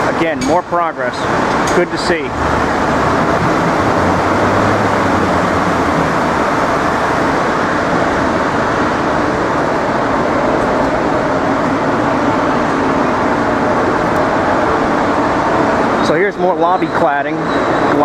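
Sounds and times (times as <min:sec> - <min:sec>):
busy city street traffic: 0:00.0 - 0:18.0.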